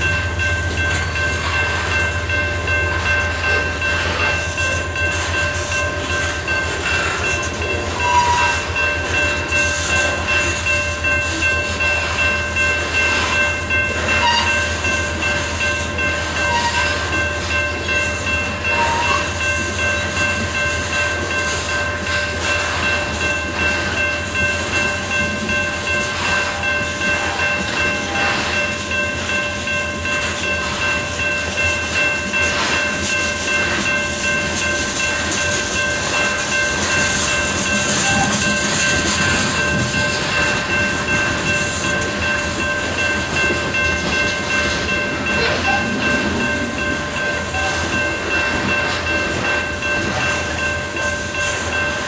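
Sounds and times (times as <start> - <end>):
freight train rumble: 0.0 - 52.0
steel wheels clattering on rails: 0.0 - 52.0.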